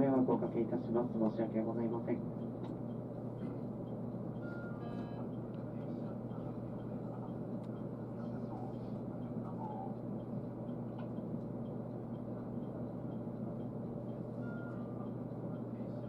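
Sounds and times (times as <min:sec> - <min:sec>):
train equipment humming: 0:00.0 - 0:16.0
faint ticking: 0:01.2 - 0:16.0.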